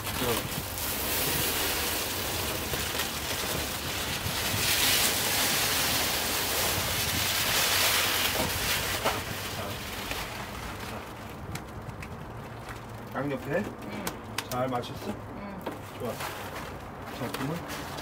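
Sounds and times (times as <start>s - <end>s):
foil sheet rustling and crinkling: 0.0s - 13.8s, 15.9s - 18.0s.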